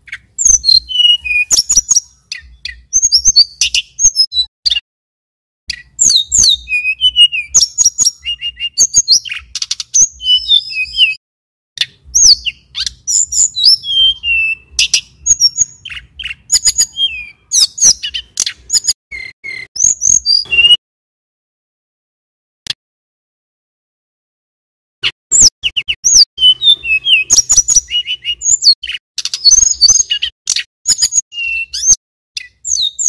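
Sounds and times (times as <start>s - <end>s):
bird singing chirps and trills: 0.0s - 4.8s, 5.7s - 11.2s, 11.8s - 20.8s, 25.0s - 33.0s.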